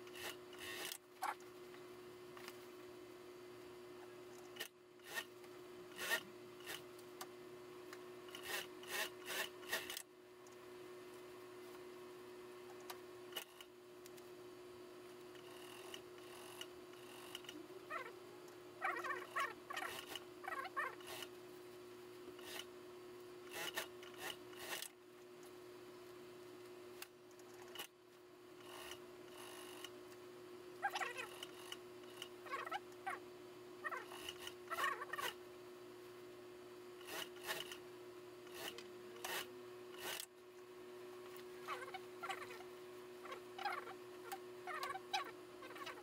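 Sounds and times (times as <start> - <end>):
steady hum: 0.0 - 46.0.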